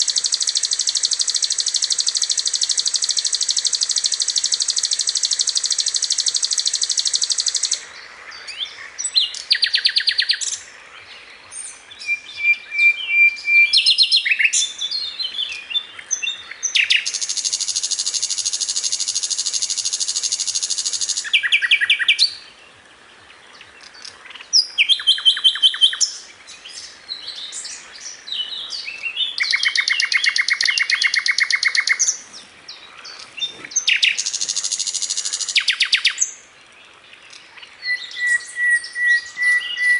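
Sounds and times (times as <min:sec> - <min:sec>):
flycatcher singing trills: 0:00.0 - 0:22.5, 0:23.8 - 0:36.4.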